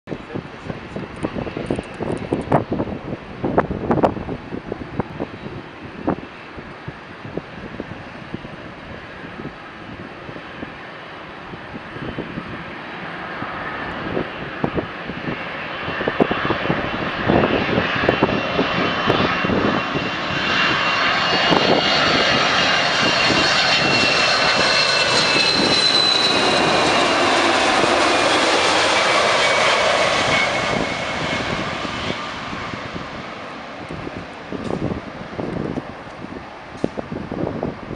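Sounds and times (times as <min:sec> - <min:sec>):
jet engines passing overhead: 0:00.1 - 0:37.9.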